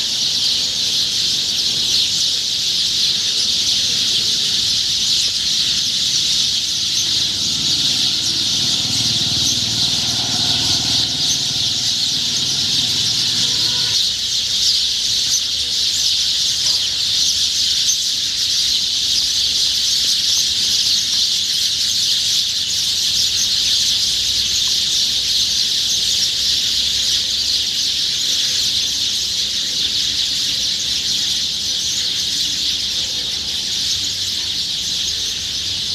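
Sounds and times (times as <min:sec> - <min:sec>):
many small birds chirping: 0:00.0 - 0:35.9.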